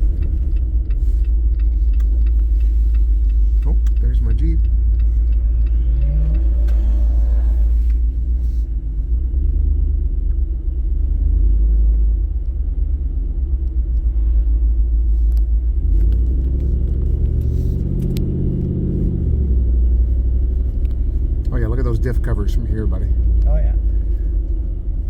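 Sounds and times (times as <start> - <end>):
car engine rumble: 0.0 - 25.0
road noise inside car: 0.0 - 25.0.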